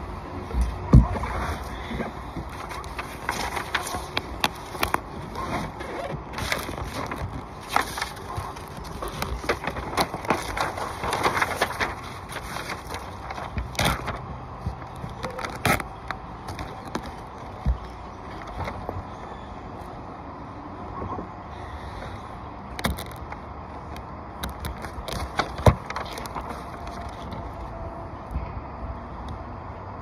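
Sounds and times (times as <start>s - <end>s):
tape crackling and rustling: 0.0s - 19.1s, 22.7s - 28.0s.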